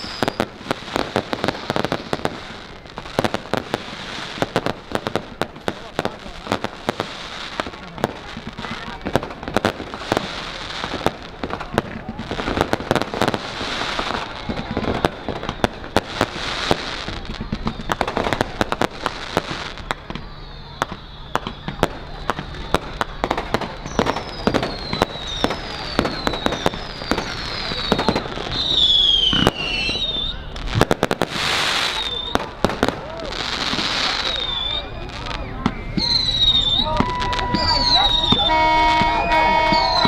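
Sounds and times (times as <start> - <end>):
falling firework whistles: 0.0 - 40.0
fireworks bangs and crackles: 0.0 - 40.0.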